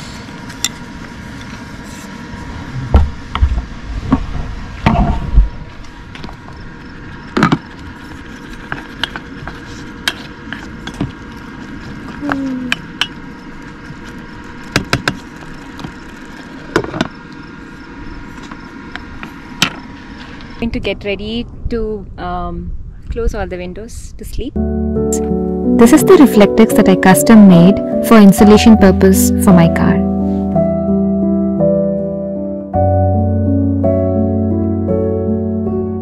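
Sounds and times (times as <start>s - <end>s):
steady hum: 0.0s - 31.4s.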